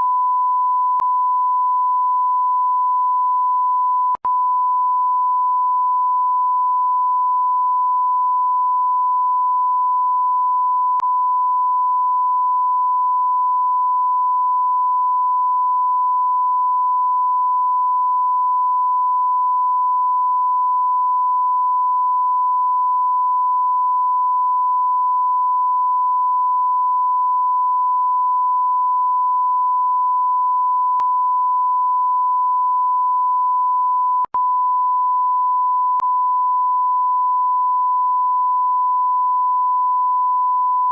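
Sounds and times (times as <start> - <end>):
high-pitched censor bleep tone: 0.0 - 40.9.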